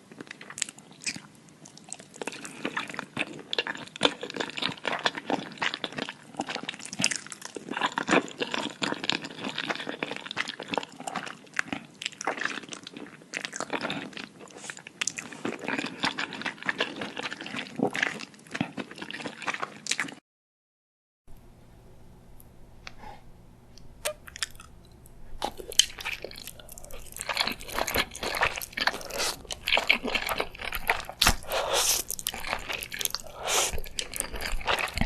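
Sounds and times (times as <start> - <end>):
wet chewing and mouth smacking: 0.2 - 20.2, 23.8 - 35.0.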